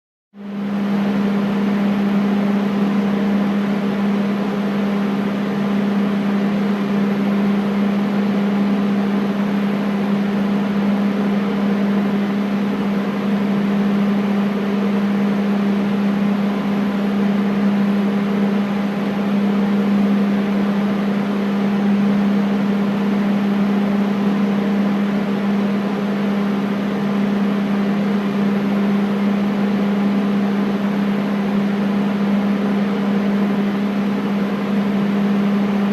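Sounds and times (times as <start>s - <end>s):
air conditioner humming: 0.4s - 35.9s.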